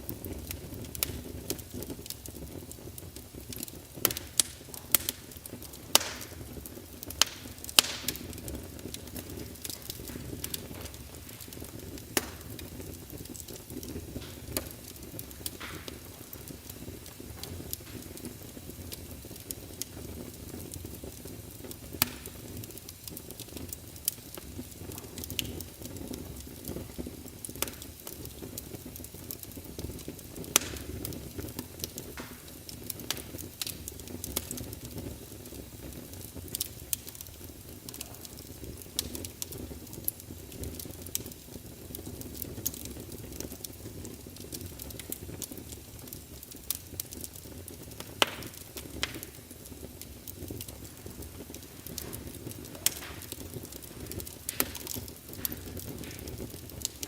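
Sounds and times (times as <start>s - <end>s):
low rumble of flame: 0.0s - 57.0s
wood fire crackling and popping: 0.0s - 57.0s.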